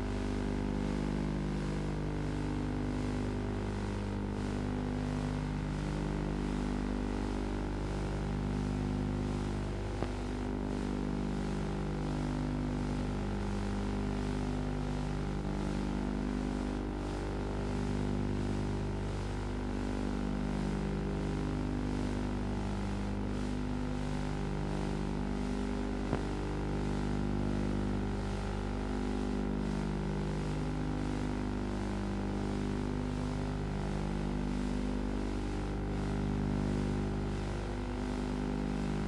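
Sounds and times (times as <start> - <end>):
constant low hum: 0.0 - 19.7, 21.2 - 39.0.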